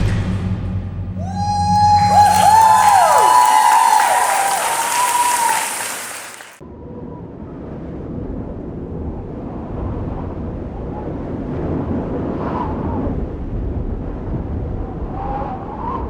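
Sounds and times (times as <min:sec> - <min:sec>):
low rumbling noise: 0:00.0 - 0:15.2.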